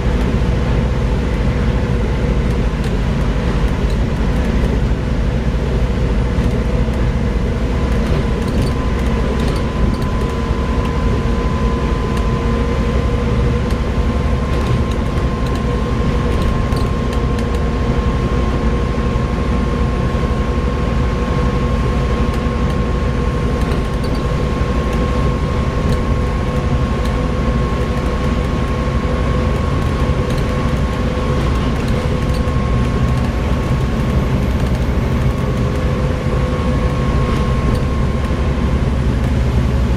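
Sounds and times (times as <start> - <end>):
bus engine rumble: 0.0 - 39.9
steady whine: 0.0 - 39.9.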